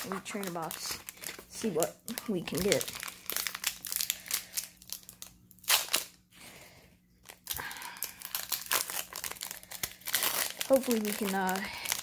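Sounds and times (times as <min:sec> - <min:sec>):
foil wrapper crinkling and tearing: 0:00.0 - 0:06.2, 0:07.2 - 0:12.0.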